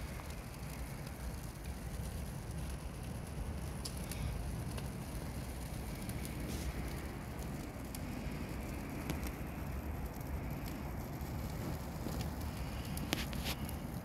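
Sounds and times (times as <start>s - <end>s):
branches burning and crackling: 0.0s - 14.0s
fire popping: 0.0s - 14.0s
low fire rumble: 0.0s - 14.0s.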